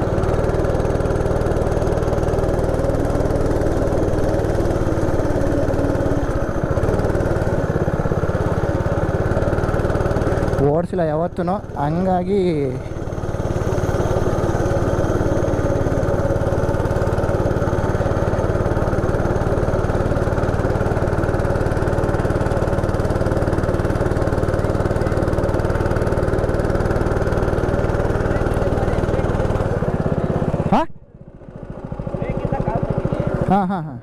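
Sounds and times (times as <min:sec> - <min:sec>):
go-kart engine running: 0:00.0 - 0:34.0.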